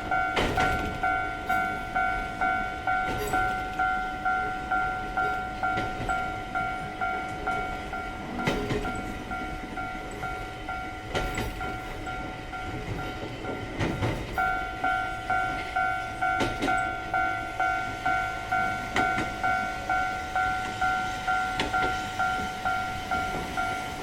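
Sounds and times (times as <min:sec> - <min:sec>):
level-crossing warning bell: 0:00.0 - 0:24.0
train wheels knocking on rail joints: 0:00.0 - 0:24.0.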